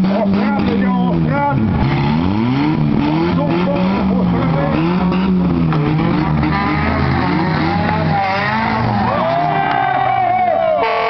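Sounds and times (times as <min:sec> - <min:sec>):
car engines revving: 0:00.0 - 0:11.0
tires squealing: 0:00.0 - 0:11.0.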